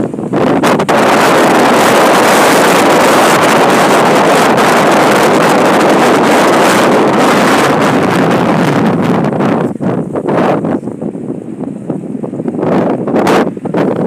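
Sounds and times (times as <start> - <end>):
wind blowing across microphone: 0.0 - 14.0.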